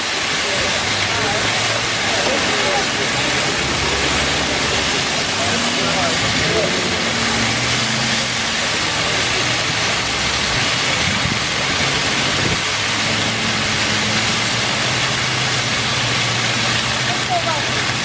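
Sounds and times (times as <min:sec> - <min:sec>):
steady rushing noise: 0:00.0 - 0:18.0
low engine hum: 0:00.6 - 0:18.0.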